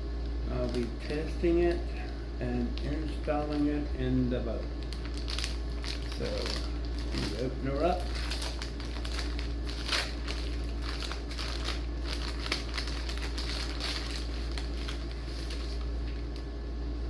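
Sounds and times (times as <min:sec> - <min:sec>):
steady low hum: 0:00.0 - 0:17.0
packaging crinkling: 0:00.2 - 0:16.6.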